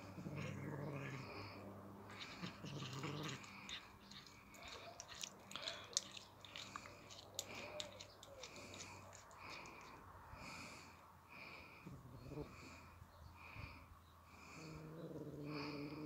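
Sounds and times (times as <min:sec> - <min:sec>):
cat growling low: 0:00.0 - 0:10.0, 0:11.6 - 0:13.0, 0:14.3 - 0:16.0.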